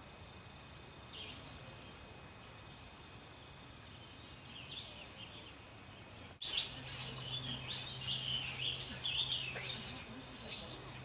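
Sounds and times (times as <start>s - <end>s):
steady low hum: 0.0s - 11.0s
small birds chirping: 0.5s - 11.0s.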